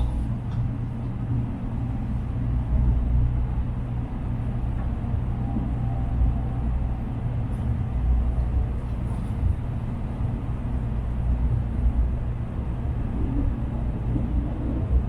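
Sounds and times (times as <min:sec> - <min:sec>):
constant hum: 0:00.0 - 0:15.0
train cabin low rumble: 0:00.0 - 0:15.0.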